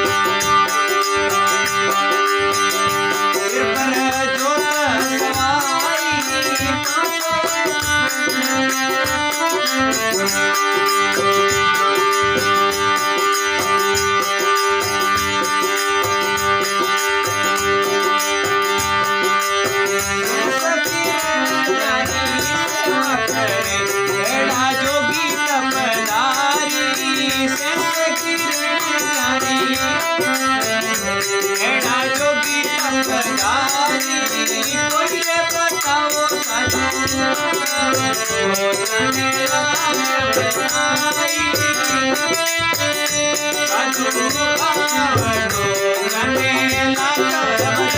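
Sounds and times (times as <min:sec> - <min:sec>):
held chords: 0:00.0 - 0:47.9
steady drum beat: 0:00.0 - 0:47.9.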